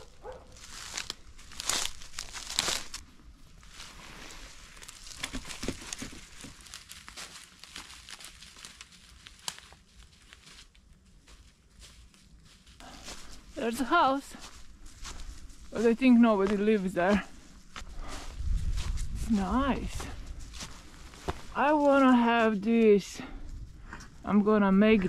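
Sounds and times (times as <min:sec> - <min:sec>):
footsteps crunching through undergrowth: 0:00.0 - 0:25.0.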